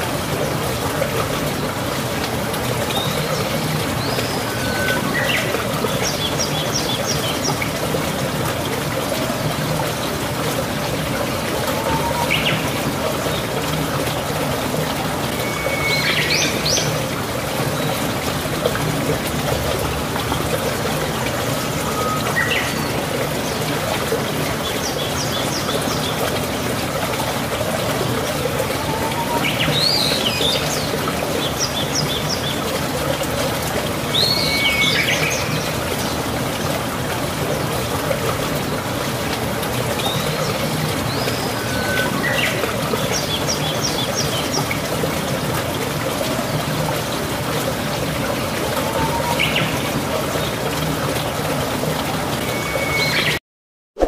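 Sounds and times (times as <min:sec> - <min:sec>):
running water rushing: 0:00.0 - 0:53.4.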